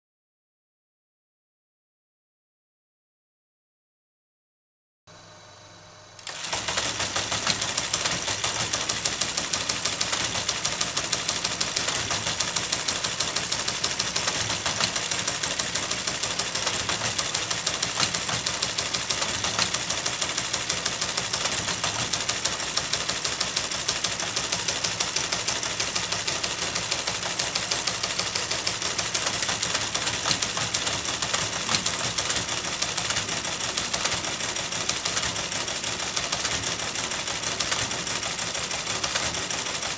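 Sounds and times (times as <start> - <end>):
teleprinter clattering: 6.2 - 39.9.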